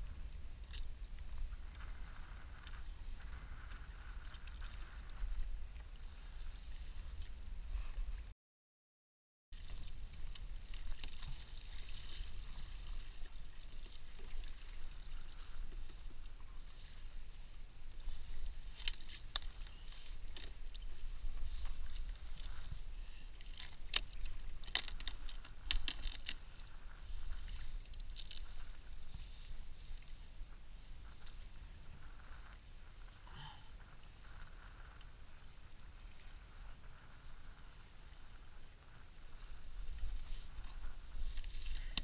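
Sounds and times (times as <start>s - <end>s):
wind rumble on microphone: 0.0s - 8.3s, 9.6s - 42.0s.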